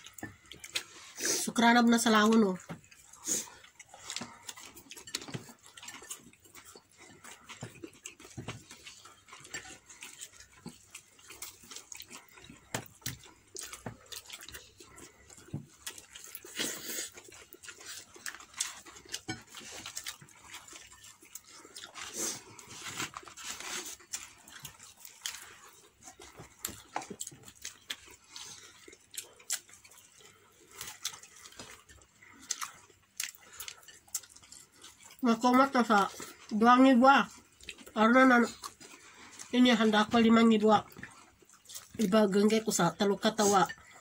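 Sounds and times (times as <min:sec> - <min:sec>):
person chewing crispy food: 0:00.0 - 0:44.0.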